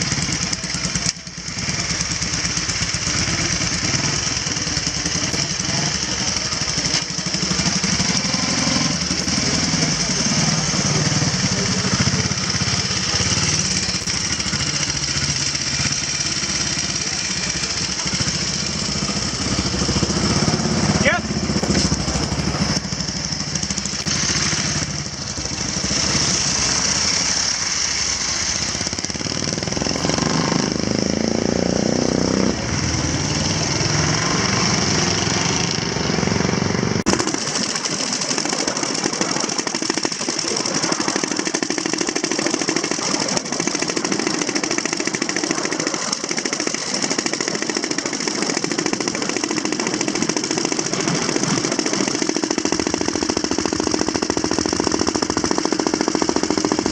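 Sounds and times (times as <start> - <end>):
motorcycle engines running: 0.0 - 56.9.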